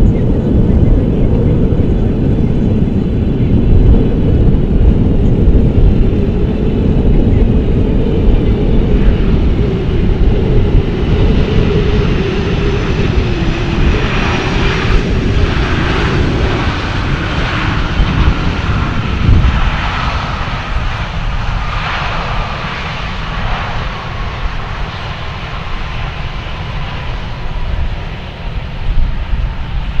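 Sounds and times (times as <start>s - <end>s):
jet engines rumble and whine: 0.0s - 30.0s.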